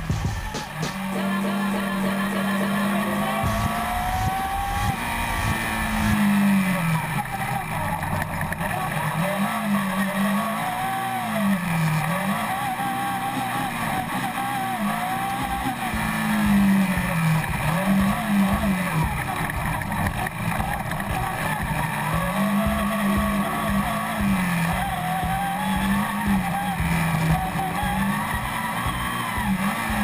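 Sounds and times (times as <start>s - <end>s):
car engine revving: 0.0s - 30.0s
road noise: 0.0s - 30.0s.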